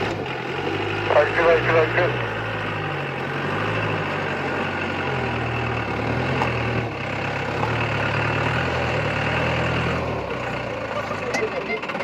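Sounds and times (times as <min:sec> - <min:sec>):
jeep engine at low revs: 0:00.0 - 0:12.0.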